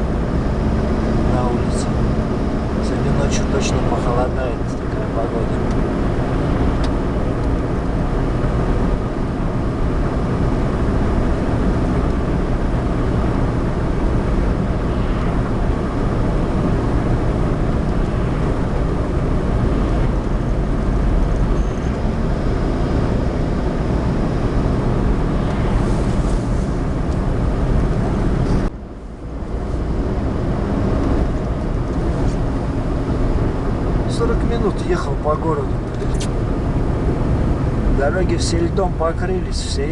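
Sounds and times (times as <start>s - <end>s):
engine and tyre noise in car: 0.0s - 39.9s.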